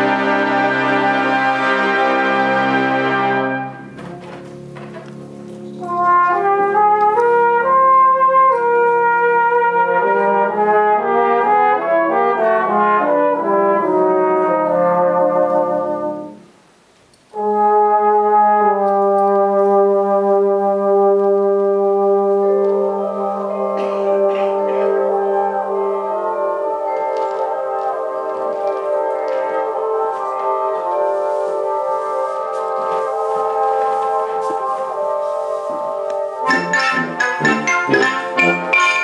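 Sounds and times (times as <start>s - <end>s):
brass band playing: 0.0s - 16.6s, 17.3s - 39.0s.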